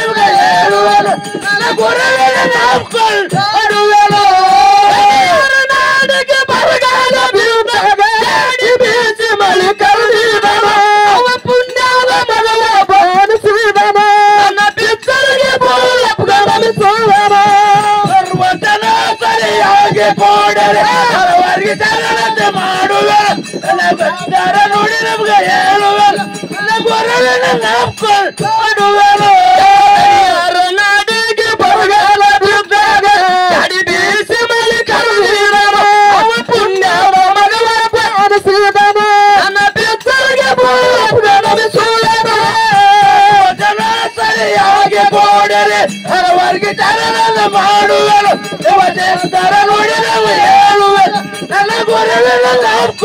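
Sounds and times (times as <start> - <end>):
drum beating: 0.0 - 53.0
man singing through a microphone: 0.0 - 53.0.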